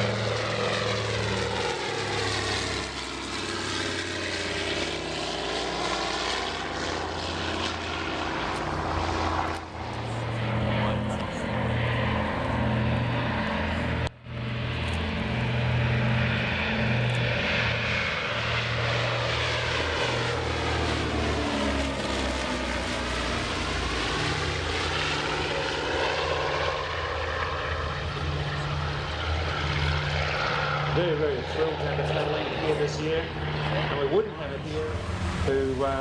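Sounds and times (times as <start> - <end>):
propeller plane flying past: 0.0 - 36.0.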